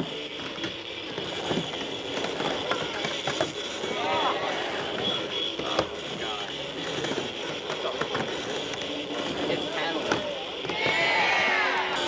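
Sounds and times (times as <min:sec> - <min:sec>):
skateboard clacking on ramp: 0:00.4 - 0:11.2
spectators talking and calling out: 0:01.8 - 0:12.0.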